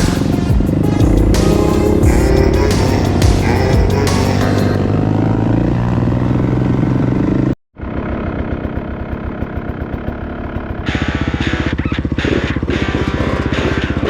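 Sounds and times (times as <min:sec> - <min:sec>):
off-road vehicle engine running: 0:00.0 - 0:14.0.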